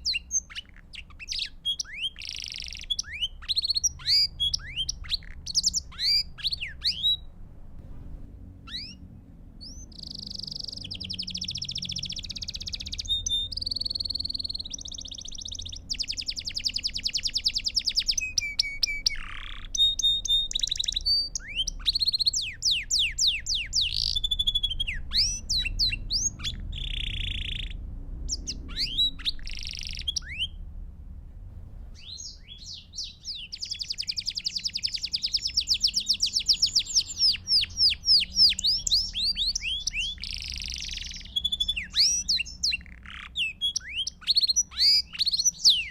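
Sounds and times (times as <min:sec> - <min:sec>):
bird chirps: 0:00.0 - 0:07.4, 0:08.6 - 0:30.6, 0:32.0 - 0:45.9
canary singing trills: 0:00.0 - 0:07.4, 0:08.6 - 0:30.6, 0:32.0 - 0:45.9.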